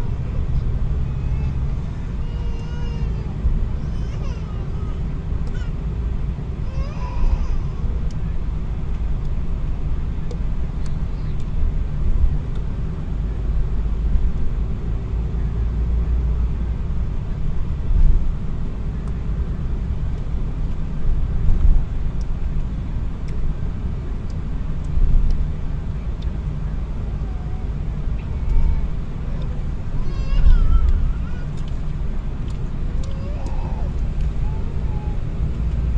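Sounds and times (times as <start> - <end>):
car engine and road noise: 0.0 - 35.9.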